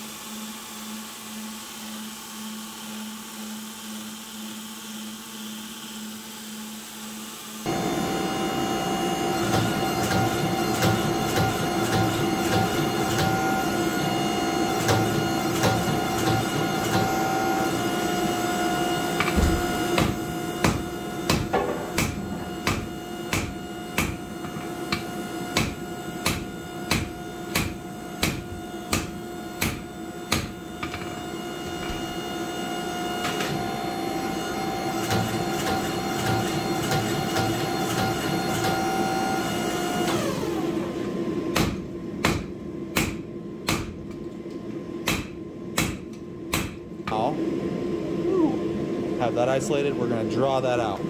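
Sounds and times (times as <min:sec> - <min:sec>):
shop machinery drone: 0:00.0 - 0:51.0.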